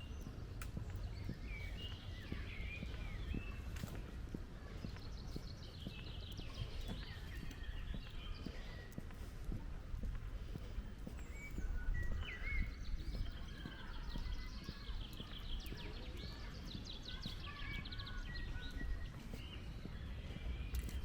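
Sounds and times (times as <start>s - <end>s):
footsteps on a path: 0.0s - 21.0s
songbirds singing: 0.0s - 21.0s.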